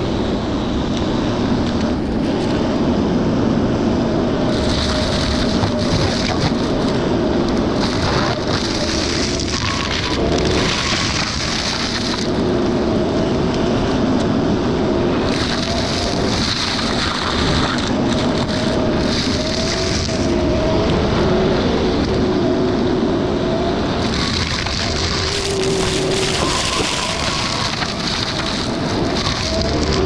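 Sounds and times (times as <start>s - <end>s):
excavator engine and hydraulics: 0.0s - 30.0s.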